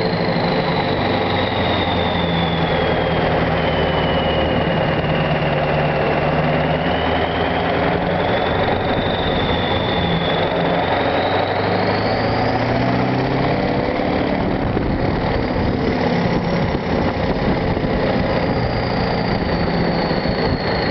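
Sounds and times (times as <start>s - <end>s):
turbo whistle: 0.0s - 14.3s, 18.1s - 20.9s
diesel engine rumble: 0.0s - 20.9s.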